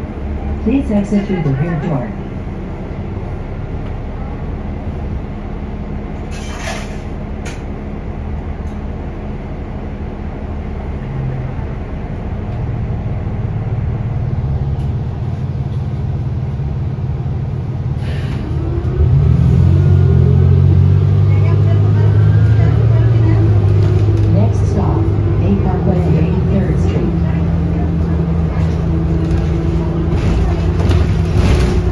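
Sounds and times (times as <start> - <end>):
bus engine rumbling: 0.0 - 31.9.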